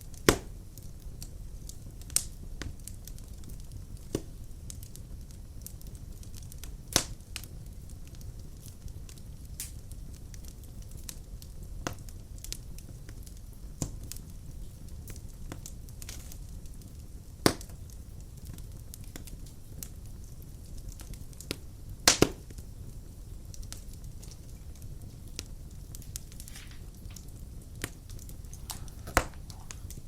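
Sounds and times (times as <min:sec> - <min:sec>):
fireplace crackling and popping: 0:00.0 - 0:30.0.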